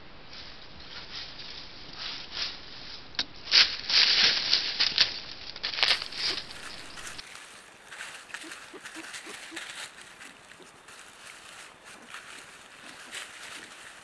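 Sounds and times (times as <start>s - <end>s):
hoofsteps in dry leaves: 0.3s - 14.0s.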